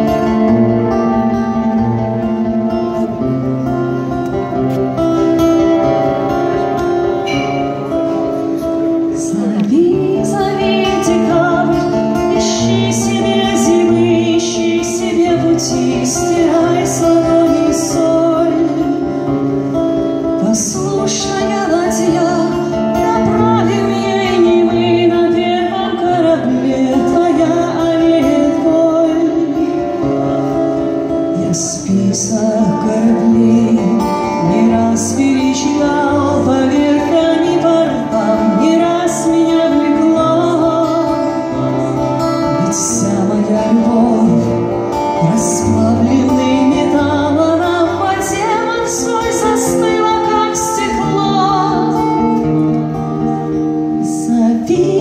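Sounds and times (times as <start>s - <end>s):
acoustic guitar: 0.0s - 55.0s
woman singing slow song: 0.0s - 55.0s.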